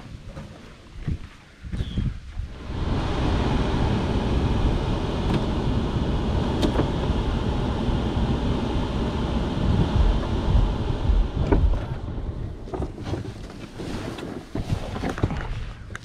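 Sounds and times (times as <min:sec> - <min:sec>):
road noise inside truck cab: 0:02.5 - 0:16.0.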